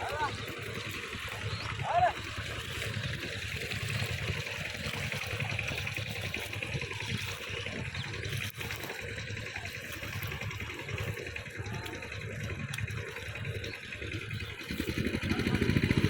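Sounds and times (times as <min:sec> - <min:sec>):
muddy water sloshing and trickling: 0:00.0 - 0:16.0.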